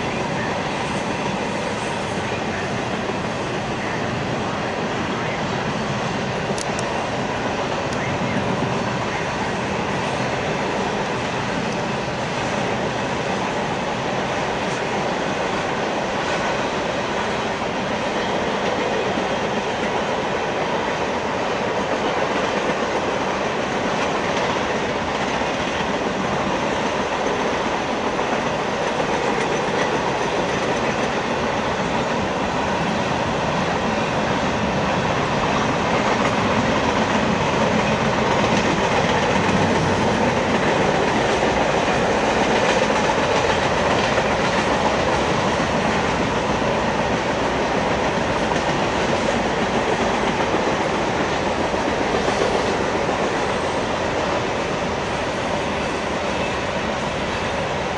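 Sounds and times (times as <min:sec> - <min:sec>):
freight train wheels on rail: 0:00.0 - 0:57.9.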